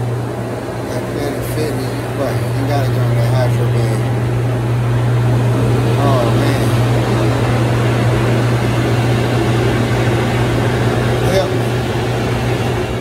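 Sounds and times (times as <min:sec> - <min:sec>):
pump and water jets humming: 0:00.0 - 0:13.0.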